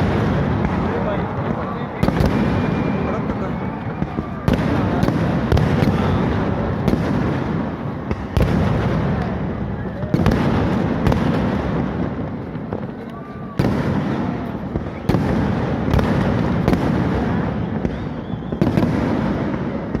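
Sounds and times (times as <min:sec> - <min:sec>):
sharp firework bangs: 0:00.0 - 0:20.0.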